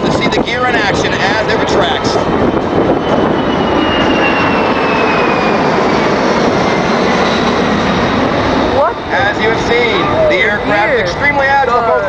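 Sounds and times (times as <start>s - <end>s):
jet aircraft flying low: 0.0s - 12.0s.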